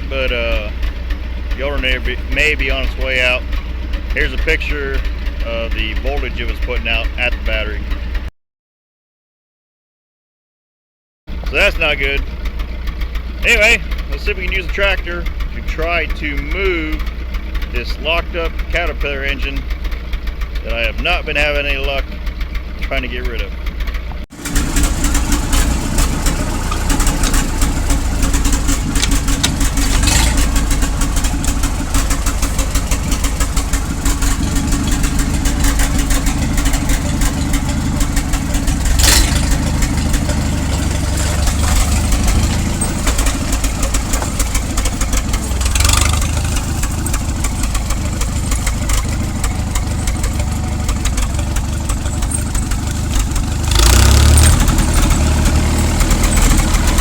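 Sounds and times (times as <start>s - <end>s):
tractor engine running: 0.0s - 8.3s, 11.3s - 57.0s.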